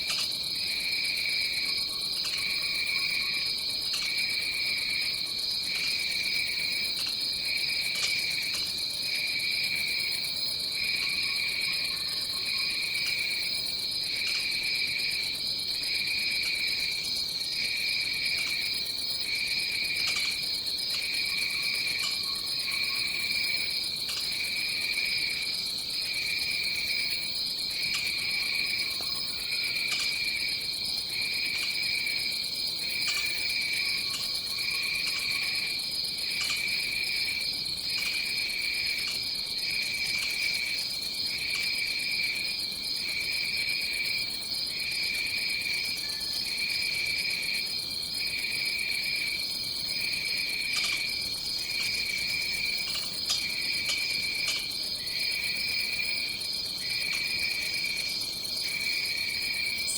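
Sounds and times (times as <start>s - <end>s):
continuous high insect trill: 0.0s - 59.9s
lower pulsing insect chorus: 0.0s - 59.9s.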